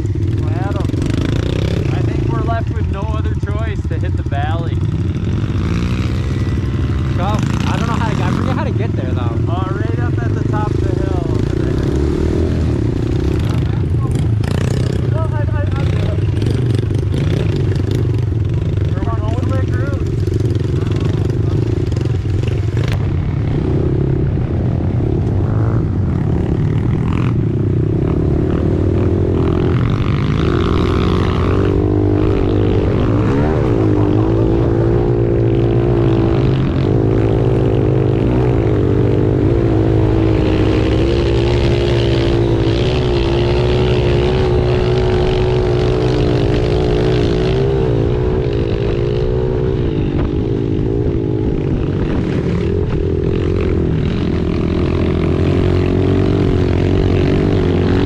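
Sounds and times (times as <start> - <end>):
pit bike engine revving: 0.0 - 58.0.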